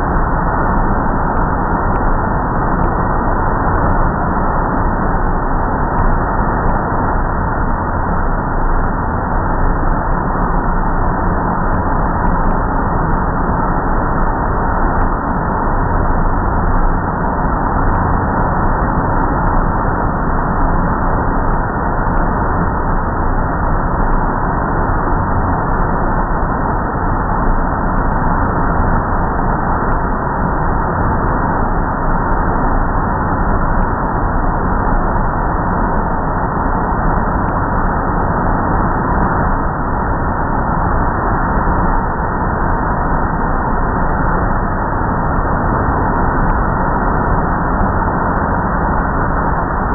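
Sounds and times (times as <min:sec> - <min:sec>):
faint constant whine: 0:00.0 - 0:49.9.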